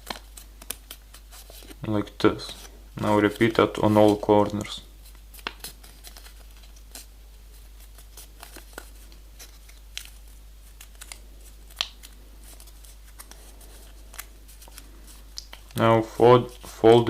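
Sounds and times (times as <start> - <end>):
paper crinkling and folding: 0.0 - 17.0.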